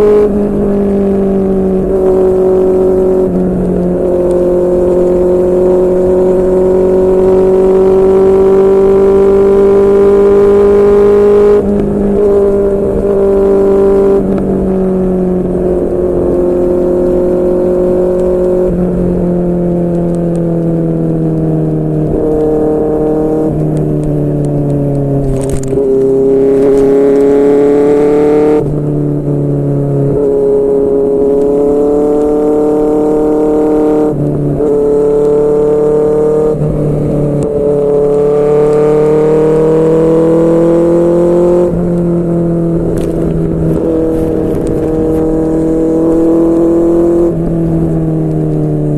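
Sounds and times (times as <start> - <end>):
motorcycle engine cruising: 0.0 - 48.9.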